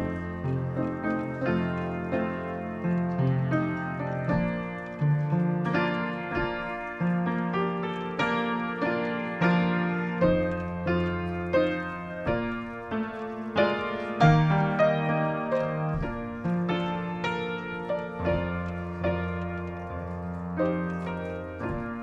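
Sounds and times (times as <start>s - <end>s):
slow solo piano piece: 0.0s - 22.0s.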